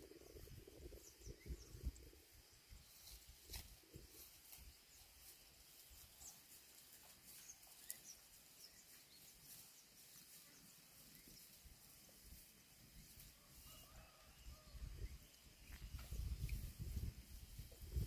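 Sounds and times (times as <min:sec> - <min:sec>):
faint high chirps and ticks: 0:00.0 - 0:17.1.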